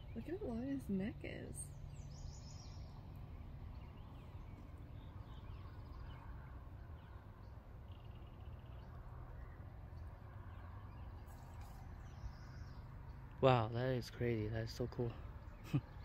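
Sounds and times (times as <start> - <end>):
faint bird chirps: 0.0 - 13.3
low steady rumble: 0.0 - 16.0.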